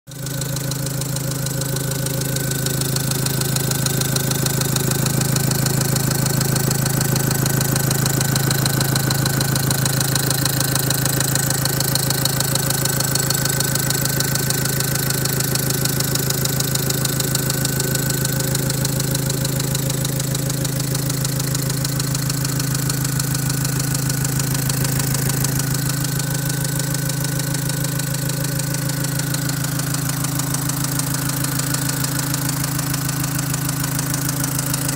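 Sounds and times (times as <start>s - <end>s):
diesel engine idling with knock: 0.1s - 34.9s.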